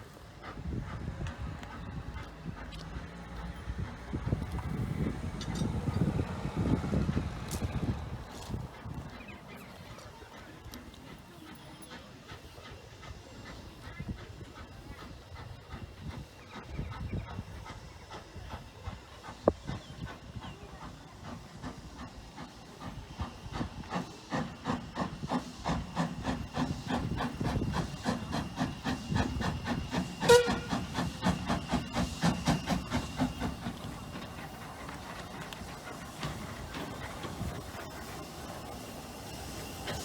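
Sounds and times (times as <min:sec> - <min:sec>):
steam hissing: 0:00.0 - 0:40.0
steam locomotive exhaust beats: 0:00.0 - 0:40.0.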